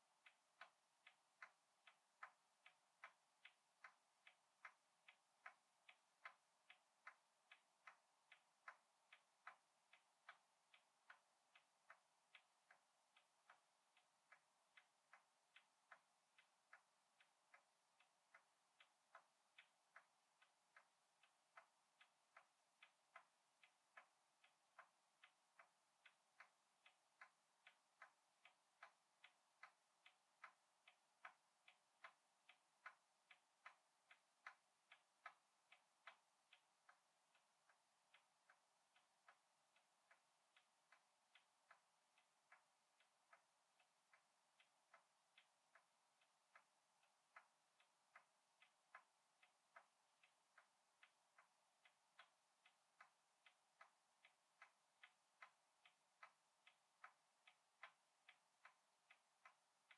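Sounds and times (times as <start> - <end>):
faint steady ticking: 0.0 - 59.9.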